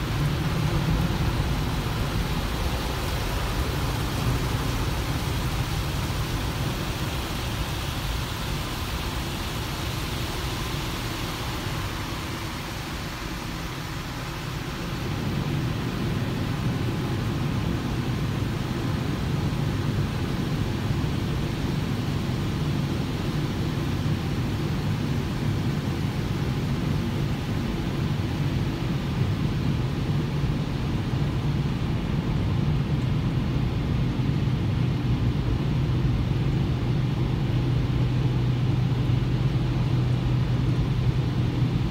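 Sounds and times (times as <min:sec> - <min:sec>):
car wash spray and machinery: 0:00.0 - 0:41.9.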